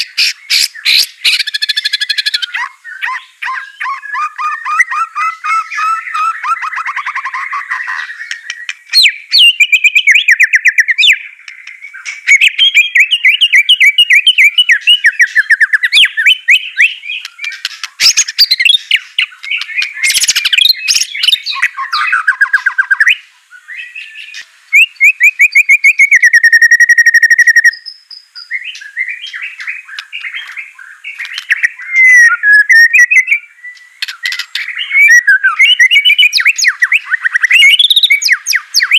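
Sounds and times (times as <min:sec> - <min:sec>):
bird singing trills: 0:00.0 - 0:38.9.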